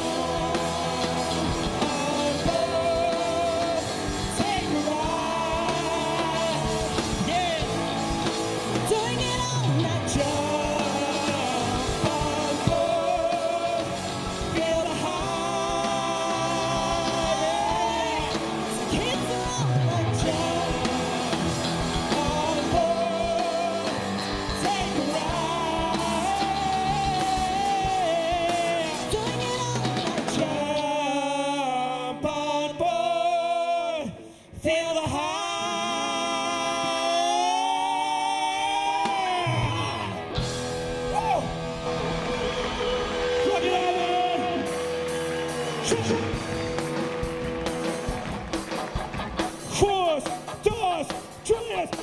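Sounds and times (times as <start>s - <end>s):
electric guitars: 0.0s - 33.3s, 35.1s - 52.0s
male lead vocal: 0.0s - 47.7s, 49.6s - 52.0s
drums: 0.0s - 52.0s.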